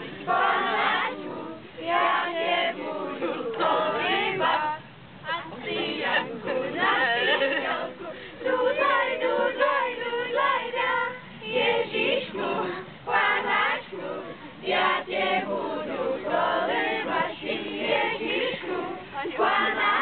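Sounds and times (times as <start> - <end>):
teenagers singing unaccompanied: 0.0 - 20.0.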